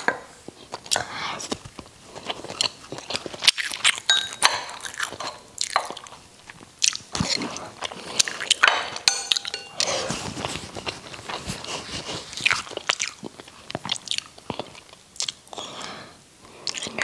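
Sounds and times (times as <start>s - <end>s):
chewing and smacking: 0.5s - 8.6s, 10.4s - 15.6s, 16.6s - 17.0s.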